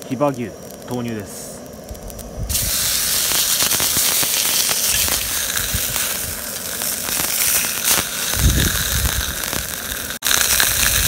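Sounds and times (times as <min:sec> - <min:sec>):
fat crackling and popping: 0:00.0 - 0:11.0
steak sizzling in a frying pan: 0:00.1 - 0:11.0.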